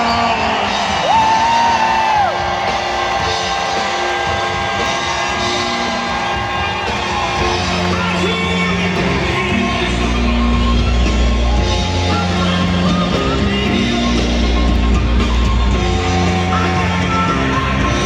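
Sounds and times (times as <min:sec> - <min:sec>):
crowd cheering and whooping: 0:00.0 - 0:18.0
loud music over sound system: 0:00.0 - 0:18.0.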